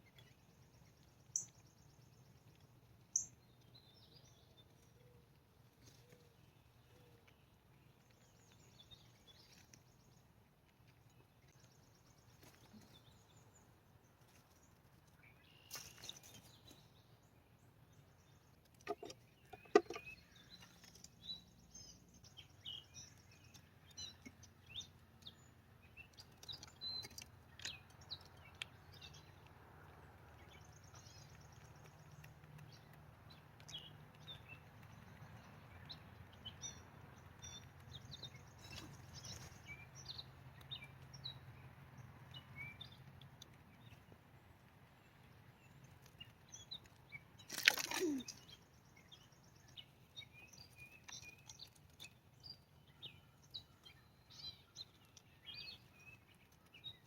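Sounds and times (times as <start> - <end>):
faint outdoor background: 0.0 - 57.0
small birds chirping: 0.0 - 57.0.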